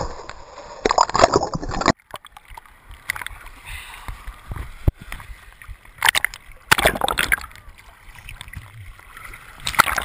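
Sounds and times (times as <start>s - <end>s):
muffled crackly water wash: 0.0s - 10.0s.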